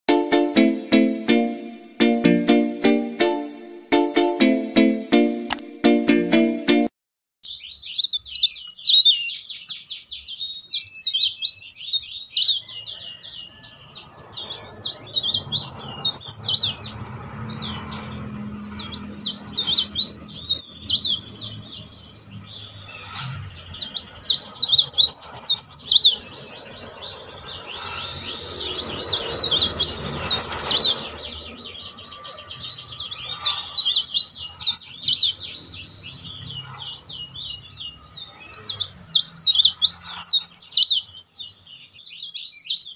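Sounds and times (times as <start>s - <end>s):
bird singing shrill trills: 7.4s - 42.9s
bird twittering: 7.4s - 42.9s.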